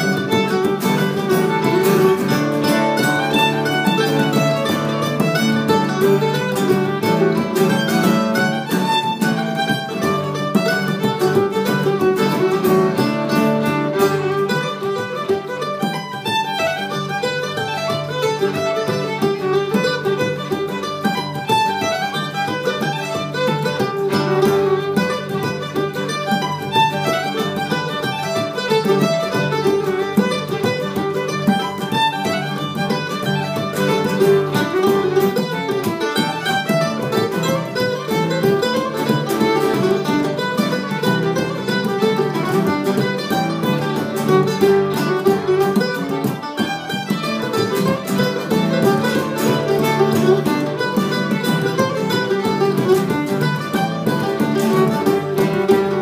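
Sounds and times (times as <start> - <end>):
fiddle melody: 0.0 - 56.0
frame drum: 0.0 - 56.0
plucked string instrument: 0.0 - 56.0
strummed acoustic guitar: 0.0 - 56.0.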